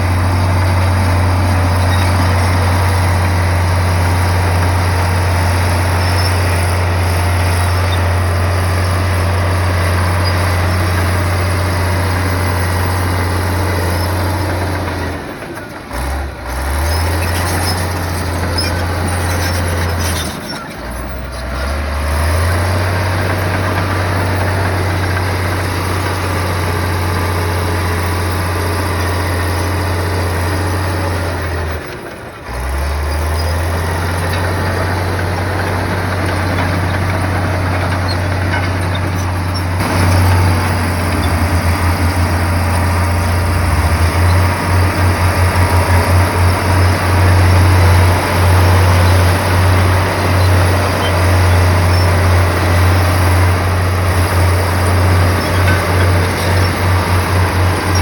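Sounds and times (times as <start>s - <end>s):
bulldozer engine droning: 0.0s - 58.0s.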